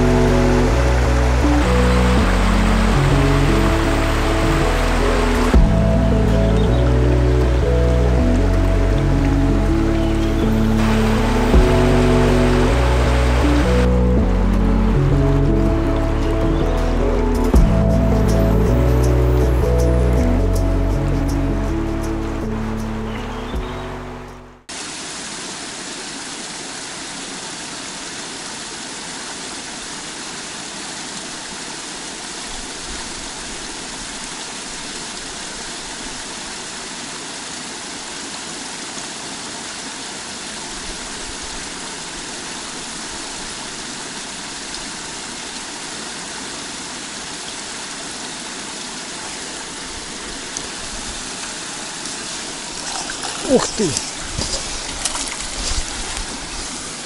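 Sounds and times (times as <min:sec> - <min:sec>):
stream flowing over shallows: 0:00.0 - 0:57.0.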